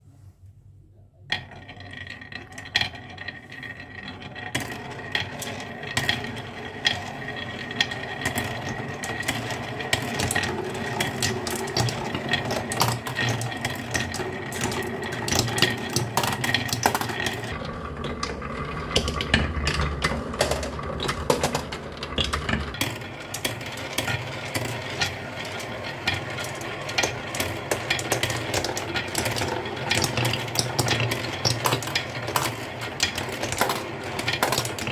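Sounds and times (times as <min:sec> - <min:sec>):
marbles clattering down marble run: 0:01.3 - 0:34.9.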